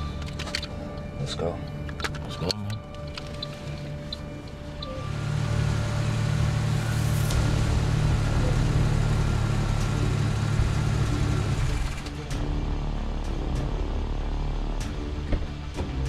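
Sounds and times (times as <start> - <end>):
car engine idling: 0.0 - 2.0, 2.8 - 16.0.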